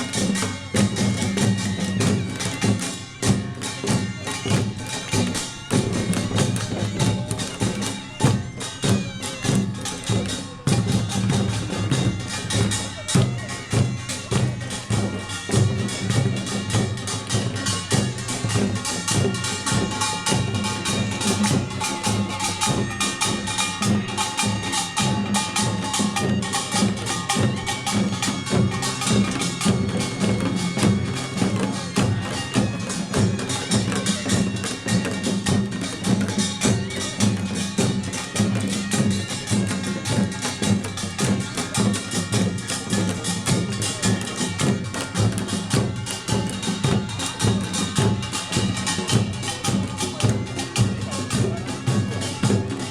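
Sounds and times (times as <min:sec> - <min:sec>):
percussion band drums: 0:00.0 - 0:52.9.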